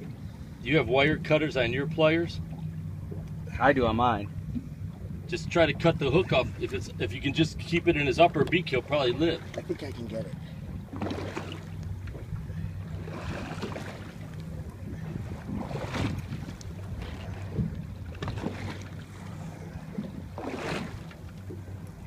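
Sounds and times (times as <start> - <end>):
boat motor idling: 0.0 - 22.0
water noise: 0.0 - 22.0
wind: 0.0 - 22.0.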